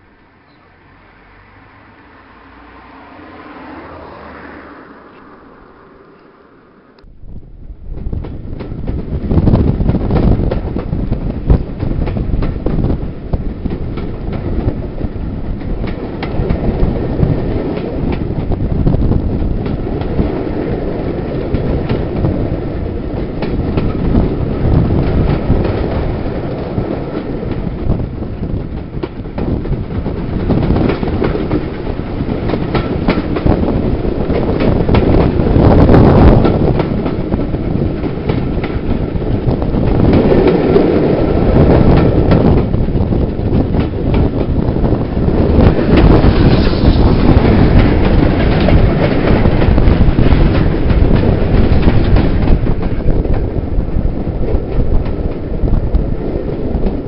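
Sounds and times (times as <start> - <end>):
train wheels rumbling on track: 0.0 - 57.0
wheels clicking over rail joints: 7.9 - 57.0.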